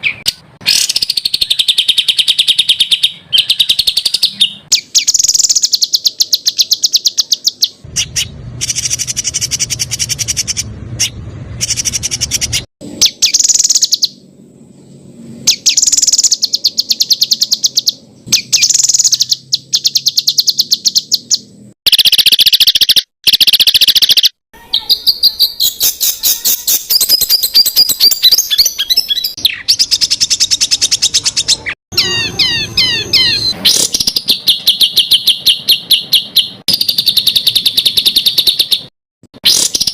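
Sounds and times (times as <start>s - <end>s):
fast sweeping bird trills: 0.0s - 14.2s, 15.4s - 38.9s.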